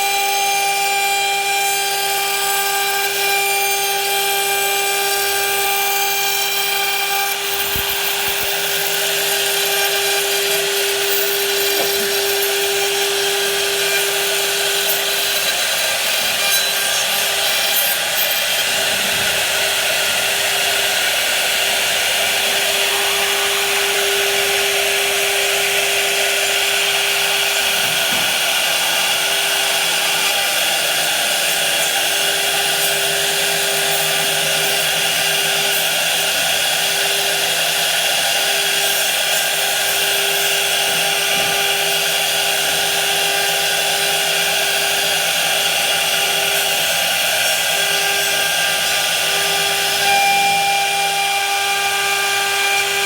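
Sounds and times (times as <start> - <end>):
power tool whining cutting wood: 0.0 - 53.0.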